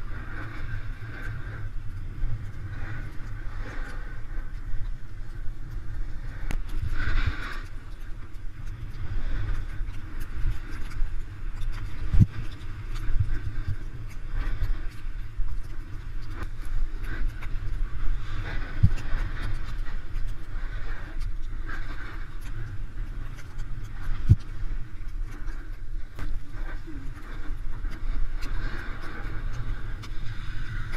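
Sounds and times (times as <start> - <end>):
wind rumbling on microphone: 0.0 - 30.9.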